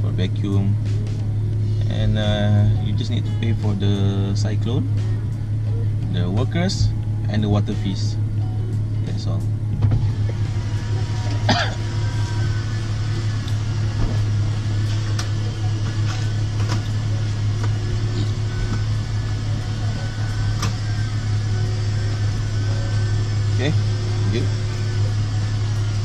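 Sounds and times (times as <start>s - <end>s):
car cabin hum: 0.0s - 26.0s.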